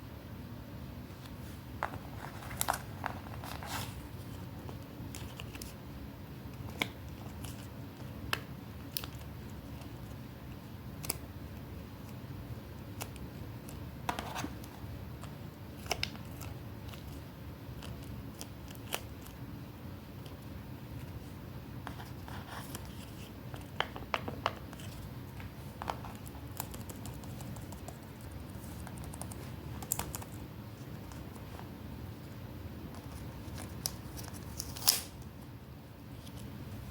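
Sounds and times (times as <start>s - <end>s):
low background hum: 0.0s - 36.9s.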